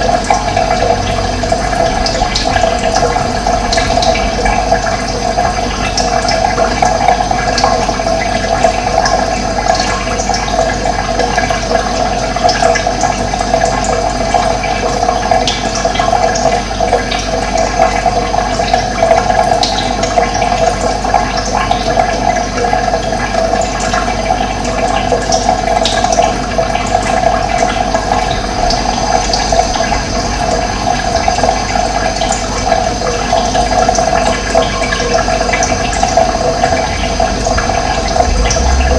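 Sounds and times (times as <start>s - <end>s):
running water flowing: 0.0s - 38.9s.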